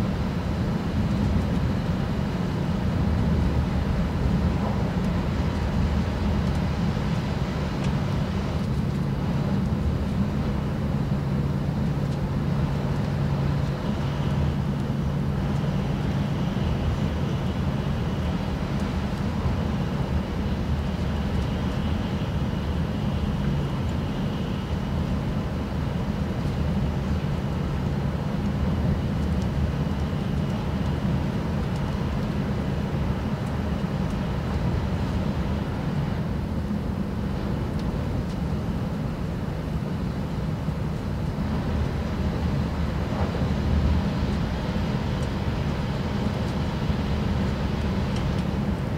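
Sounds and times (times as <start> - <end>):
train cabin running rumble: 0.0 - 48.9.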